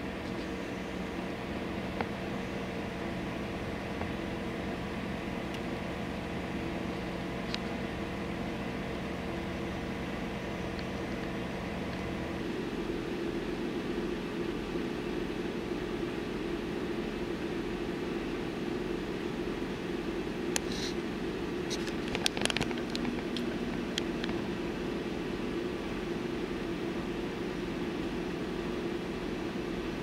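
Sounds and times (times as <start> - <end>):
idling engines and machinery drone: 0.0 - 30.0.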